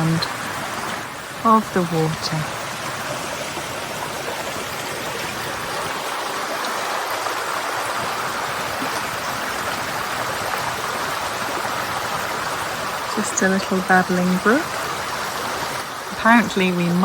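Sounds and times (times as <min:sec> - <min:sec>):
brook babbling over stones: 0:00.0 - 0:17.0.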